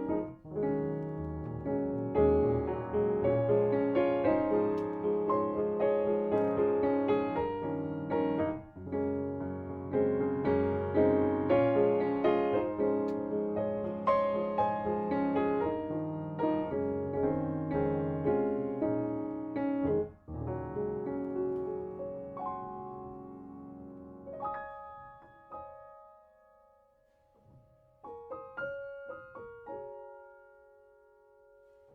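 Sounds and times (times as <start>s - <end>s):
soft piano melody: 0.0s - 31.9s.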